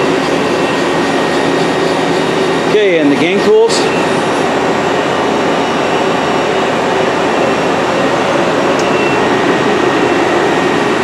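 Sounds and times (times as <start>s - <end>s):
faint high whine: 0.0s - 11.0s
lathe machine drone: 0.0s - 11.0s.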